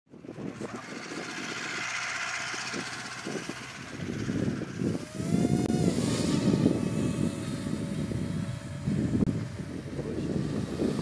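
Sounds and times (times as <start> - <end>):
wind rumble on microphone: 0.1 - 11.0
drone motors whining: 0.2 - 11.0.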